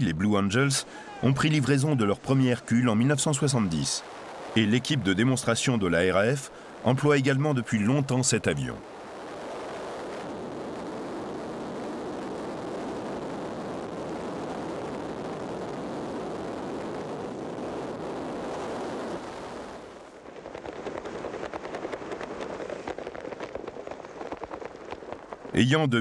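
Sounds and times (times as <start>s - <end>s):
dense rapid crackling: 0.0s - 26.0s.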